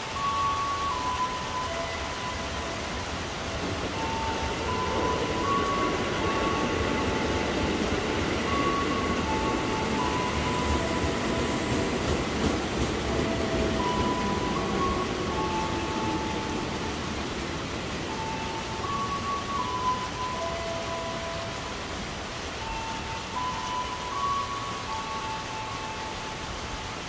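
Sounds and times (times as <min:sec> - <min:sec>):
electric train pulling into platform: 0:00.0 - 0:27.0
rumble of train wheels: 0:00.0 - 0:27.0.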